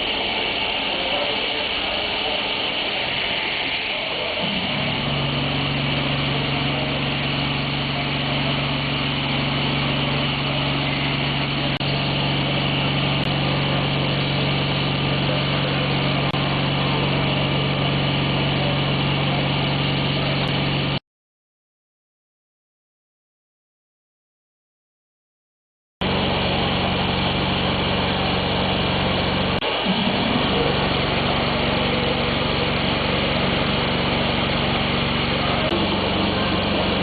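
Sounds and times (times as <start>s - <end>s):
air compressor humming: 0.0s - 21.0s, 26.0s - 37.0s.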